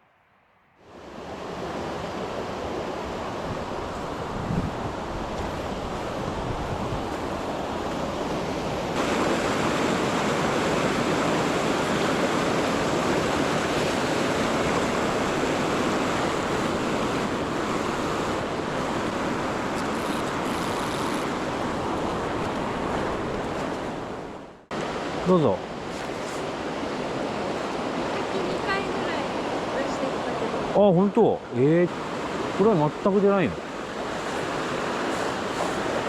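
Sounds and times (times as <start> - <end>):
stream rushing over rocks: 0.9 - 19.7, 24.7 - 36.0.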